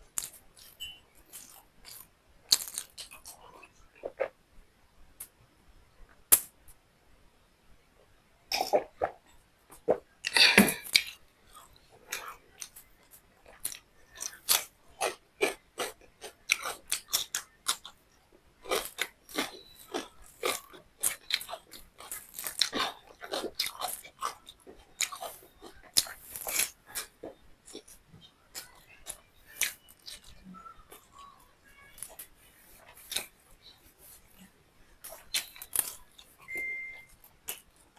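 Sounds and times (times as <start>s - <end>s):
chewing and mouth sounds: 0.1s - 4.3s, 8.5s - 18.0s, 18.6s - 37.9s.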